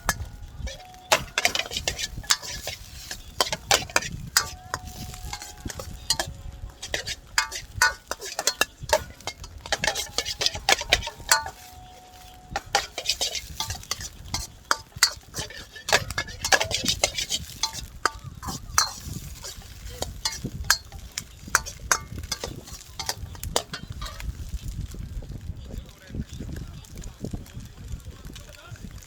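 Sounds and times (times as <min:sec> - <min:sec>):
metal utensil scraping a wok: 0:00.0 - 0:24.8
food sizzling: 0:00.0 - 0:25.6.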